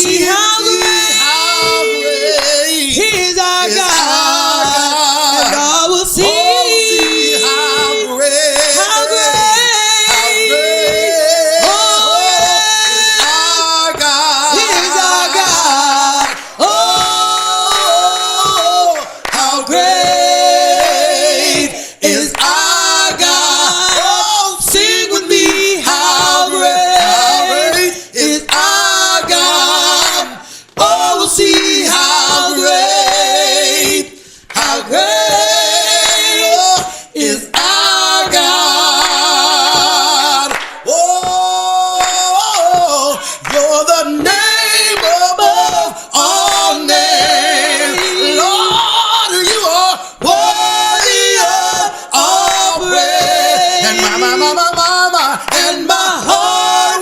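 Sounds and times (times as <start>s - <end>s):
voices singing worship song: 0.0s - 57.0s.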